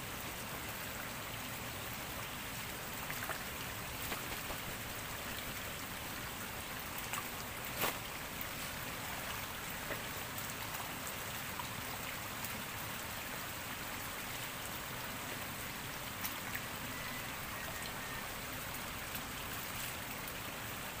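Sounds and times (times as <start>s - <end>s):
shallow stream running: 0.0s - 21.0s.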